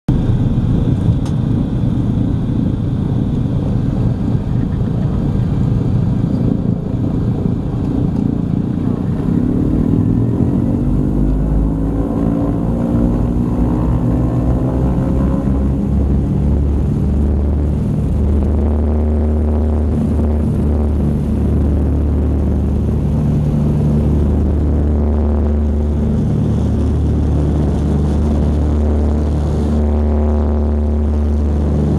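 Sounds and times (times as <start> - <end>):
twin piston aircraft engines droning: 0.1 - 31.9.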